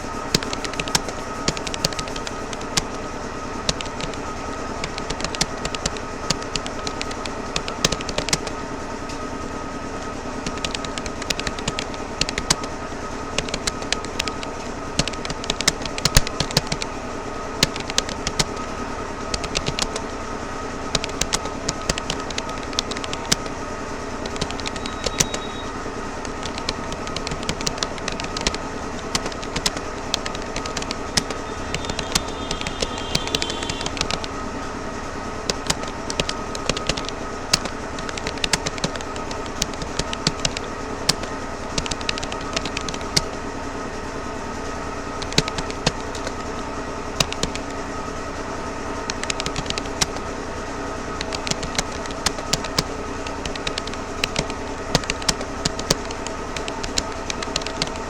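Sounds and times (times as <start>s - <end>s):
computer keyboard typing: 0.0s - 8.7s, 10.0s - 17.0s, 17.6s - 20.2s, 20.8s - 34.4s, 35.4s - 43.4s, 45.1s - 47.9s, 48.9s - 58.0s
steady background hum: 0.0s - 58.0s.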